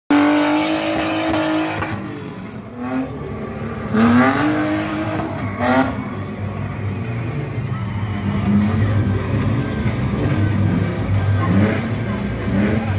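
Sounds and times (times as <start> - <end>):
car engine revving: 0.1 - 12.9.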